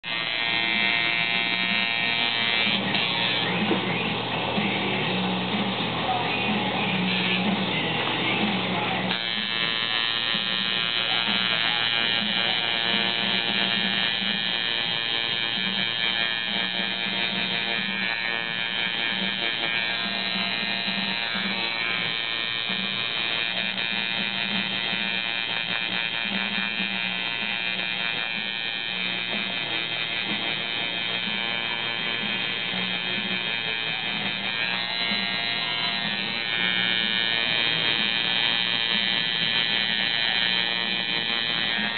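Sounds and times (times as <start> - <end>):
tattoo machine buzzing: 0.0 - 41.9.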